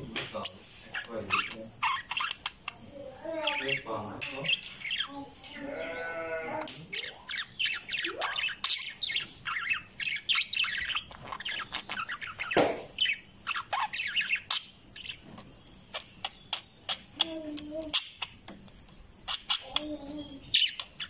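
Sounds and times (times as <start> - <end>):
parakeets chirping and squawking: 0.0 - 21.0.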